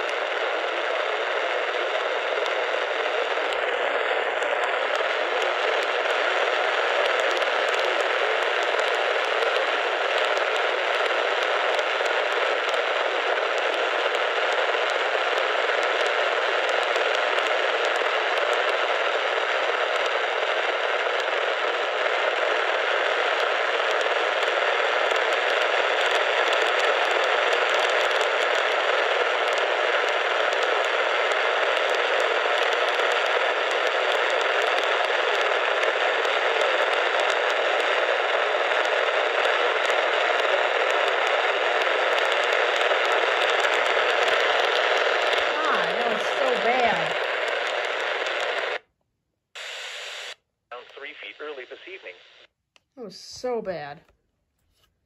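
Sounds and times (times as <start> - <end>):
radio static hiss: 0.0 - 48.8, 49.6 - 53.7.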